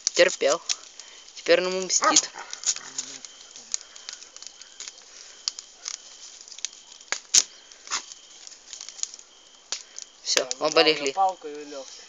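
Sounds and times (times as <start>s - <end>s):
wood crackling and snapping: 0.0s - 12.0s.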